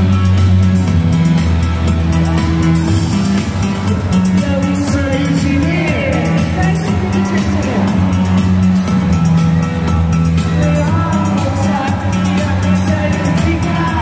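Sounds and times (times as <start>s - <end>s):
bass line: 0.0s - 14.0s
drums fast beat: 0.0s - 14.0s
live rock band playing: 0.0s - 14.0s.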